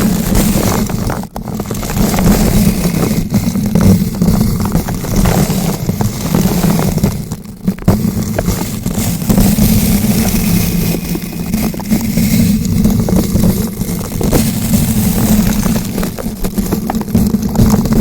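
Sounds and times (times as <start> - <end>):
microphone handling rumble: 0.0 - 18.0.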